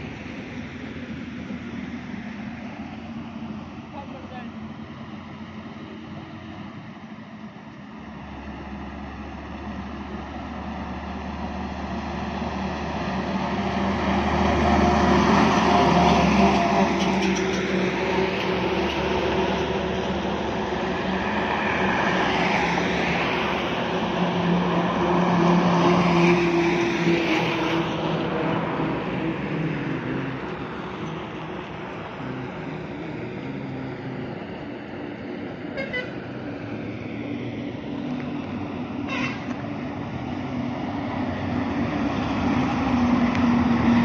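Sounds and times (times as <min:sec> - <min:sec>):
vehicles passing on highway: 0:00.0 - 0:44.0.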